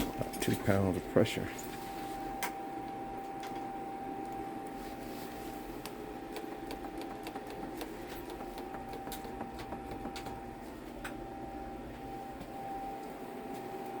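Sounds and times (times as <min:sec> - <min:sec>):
steady high hum: 0:00.0 - 0:14.0.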